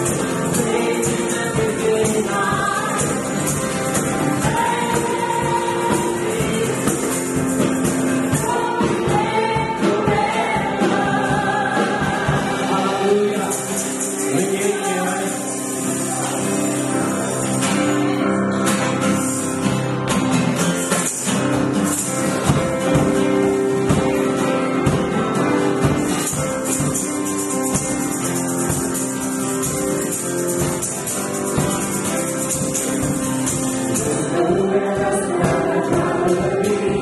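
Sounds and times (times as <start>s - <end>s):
voices singing worship music: 0.0s - 19.9s, 20.8s - 37.0s
instrumental accompaniment: 0.0s - 37.0s.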